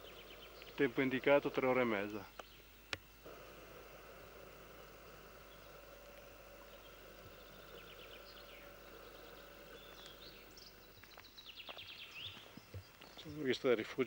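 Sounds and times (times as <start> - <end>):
faint birdsong: 0.0 - 14.0
low hiss and hum: 0.0 - 14.0.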